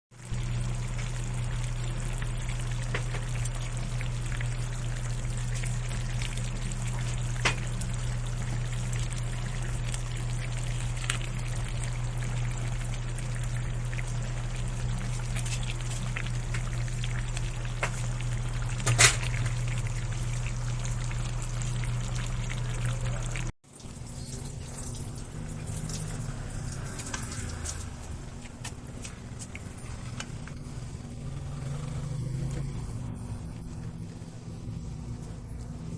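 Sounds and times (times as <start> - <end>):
pot cooking with steady hiss: 0.1 - 35.9.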